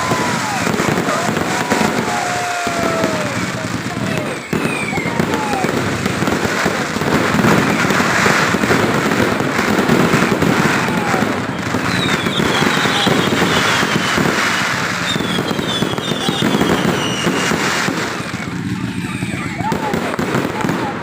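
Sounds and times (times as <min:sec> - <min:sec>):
fireworks crackling and banging: 0:00.0 - 0:21.0
whistling fireworks: 0:00.0 - 0:21.0.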